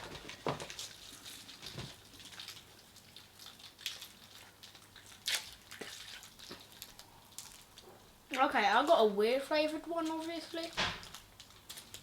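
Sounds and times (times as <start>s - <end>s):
snack packaging crackling: 0.0s - 9.1s, 9.8s - 12.0s.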